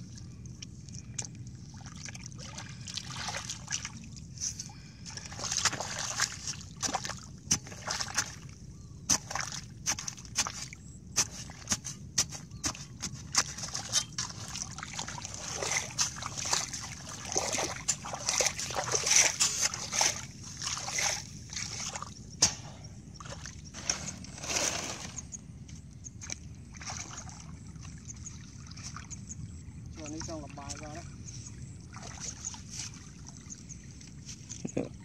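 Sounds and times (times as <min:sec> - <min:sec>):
water splashing and sloshing: 0:00.0 - 0:34.9.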